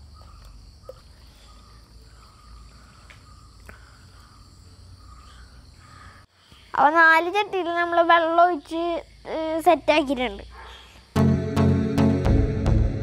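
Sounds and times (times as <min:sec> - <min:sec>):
crickets chirring: 0:00.0 - 0:11.2.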